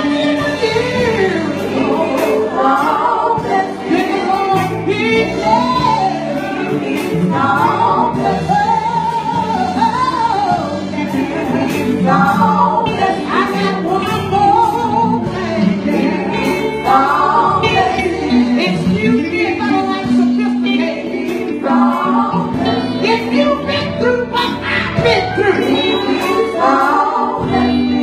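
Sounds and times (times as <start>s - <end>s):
low musical accompaniment: 0.0s - 28.0s
women's gospel group singing: 0.0s - 28.0s.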